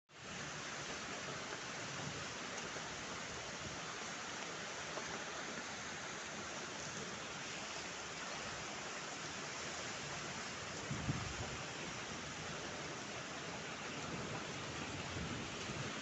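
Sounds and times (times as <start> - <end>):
rushing hiss of outdoor noise: 0.1 - 16.0.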